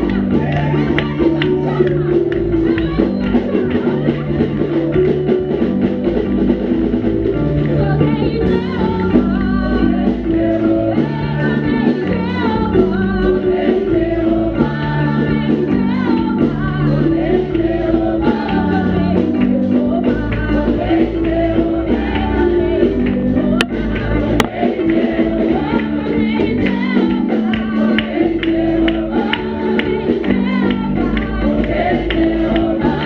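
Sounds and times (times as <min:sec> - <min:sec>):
band with sustained bass: 0:00.0 - 0:33.0
gospel voices singing: 0:00.0 - 0:33.0.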